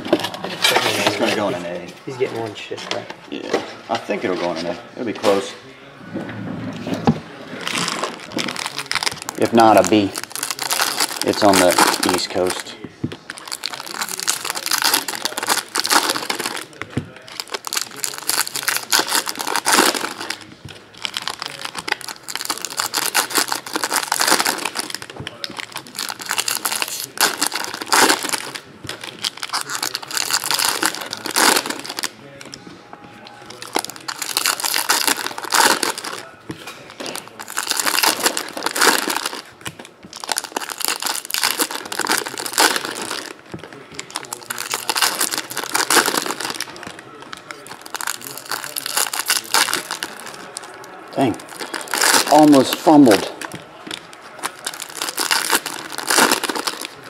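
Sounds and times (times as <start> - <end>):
wrappers being crumpled: 7.6 - 32.5, 33.2 - 57.0
foil wrappers crinkling and tearing: 7.6 - 32.6, 33.2 - 57.0.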